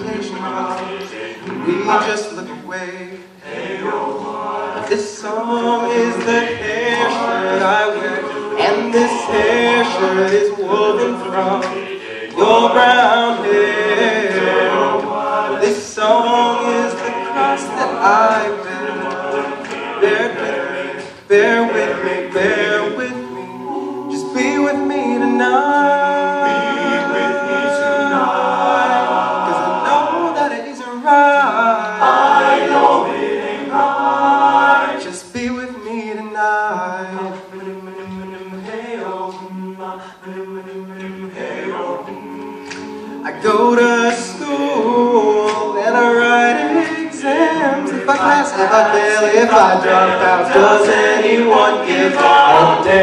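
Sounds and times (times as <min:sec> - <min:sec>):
male a cappella group singing: 0:00.0 - 0:53.0.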